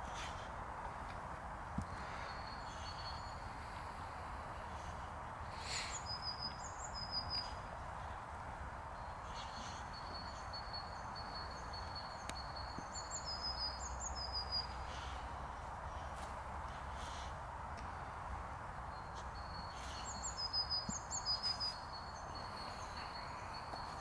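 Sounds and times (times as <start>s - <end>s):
songbird chirping: 1.8s - 24.0s.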